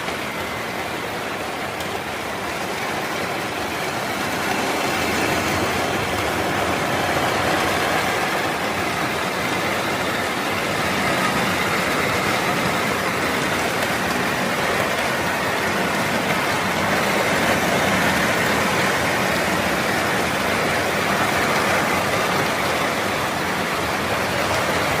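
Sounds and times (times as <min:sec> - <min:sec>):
rain falling on a roof: 0:00.0 - 0:25.0.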